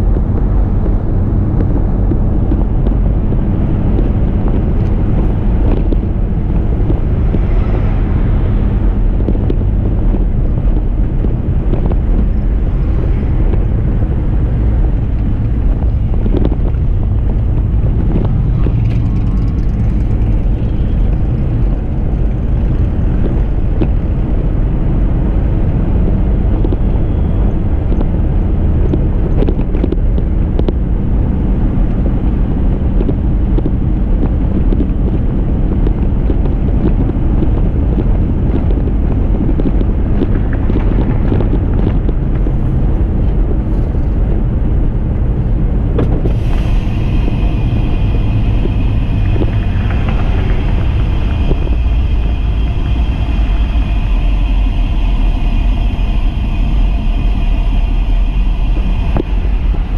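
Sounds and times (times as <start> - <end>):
road noise: 0.0 - 59.9
truck engine: 0.0 - 59.9
wind buffeting microphone: 0.0 - 59.9.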